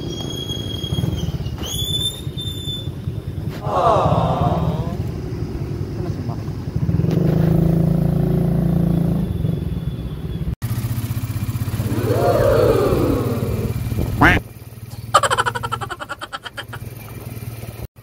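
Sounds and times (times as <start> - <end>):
small vehicle engine running: 0.0 - 18.0.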